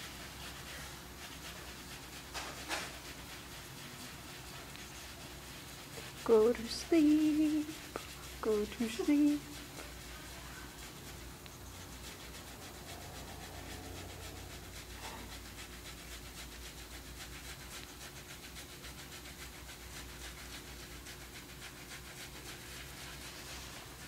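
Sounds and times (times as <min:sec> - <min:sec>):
gauze scrubbing: 0:00.0 - 0:24.0
low steady hum: 0:00.0 - 0:24.0.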